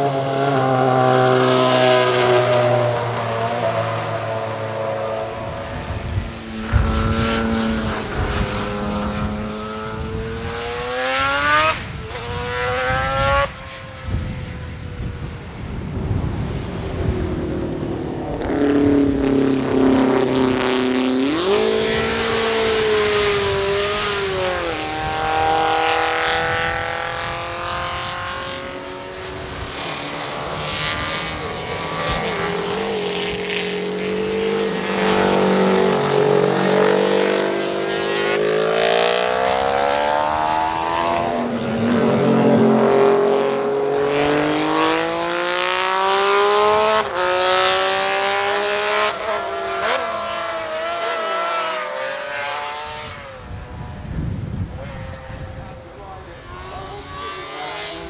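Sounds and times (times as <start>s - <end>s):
racing motorcycle engines accelerating: 0.0s - 58.0s.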